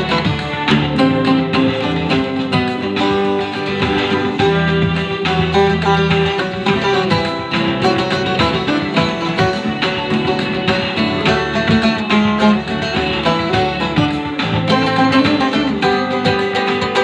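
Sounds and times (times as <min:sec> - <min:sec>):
mandolin picked melody: 0:00.0 - 0:17.0.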